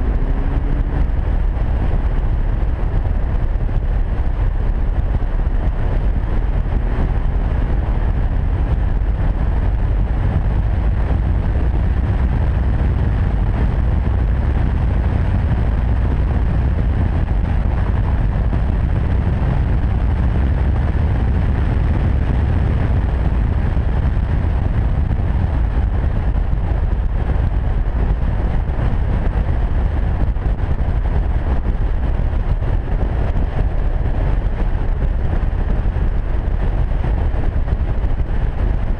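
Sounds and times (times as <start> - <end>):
wind and road rumble: 0.0 - 38.9.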